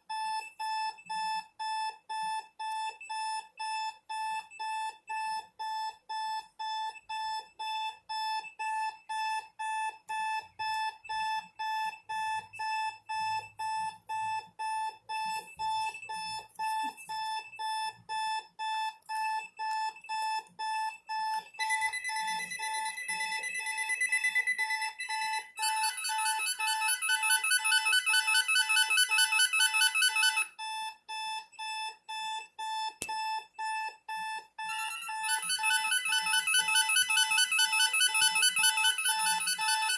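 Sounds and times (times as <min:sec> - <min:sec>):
alarm clock beeping: 0:00.0 - 0:39.9
phone ringtone trilling: 0:06.7 - 0:39.9.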